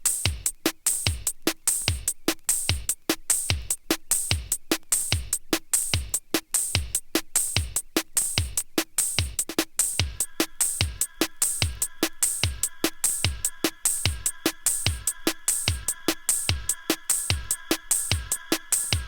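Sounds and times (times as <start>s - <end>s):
drum machine kick: 0.0s - 19.0s
open hi-hat hiss: 0.0s - 19.0s.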